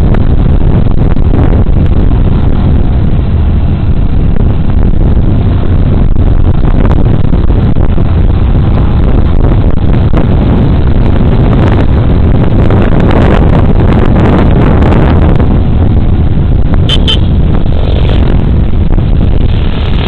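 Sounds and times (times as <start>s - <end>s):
road noise: 0.0s - 20.0s
wind noise on microphone: 0.0s - 20.0s.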